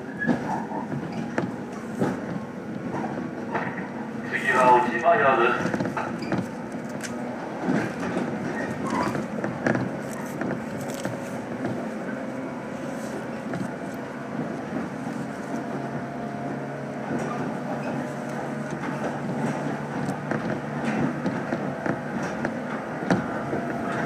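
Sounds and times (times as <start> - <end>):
train wheels rolling on rail: 0.0 - 24.0.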